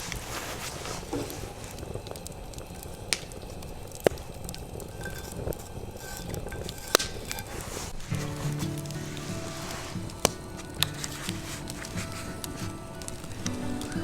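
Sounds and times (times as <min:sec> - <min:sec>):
campfire crackling: 0:00.0 - 0:14.0
low steady hiss: 0:00.0 - 0:14.0
wood fire pops: 0:00.0 - 0:14.0.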